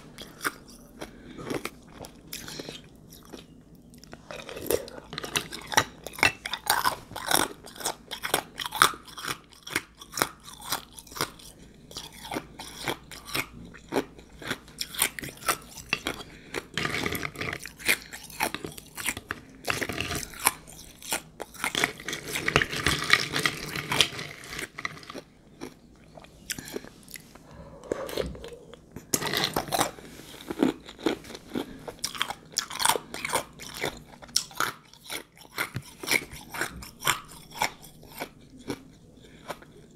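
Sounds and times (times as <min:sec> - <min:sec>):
chewing ice crunching: 0:00.1 - 0:39.9.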